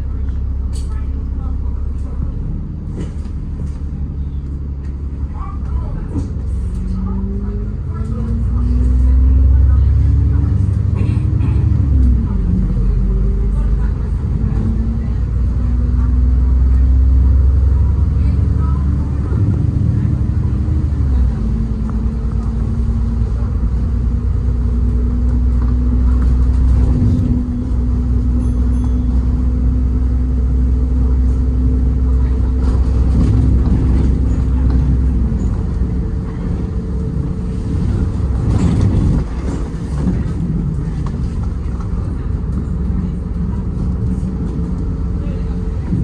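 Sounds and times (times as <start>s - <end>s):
bus engine rumble: 0.0s - 46.0s.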